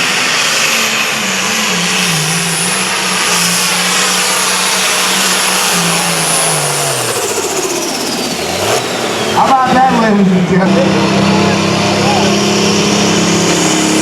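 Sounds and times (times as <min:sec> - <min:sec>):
steady high whine: 0:00.0 - 0:14.0
tractor engine running hard: 0:00.0 - 0:14.0.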